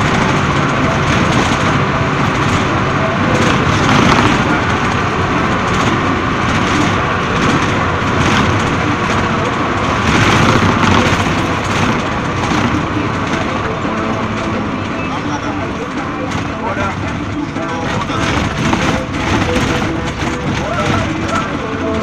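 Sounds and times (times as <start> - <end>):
road and engine noise in cabin: 0.0 - 22.0.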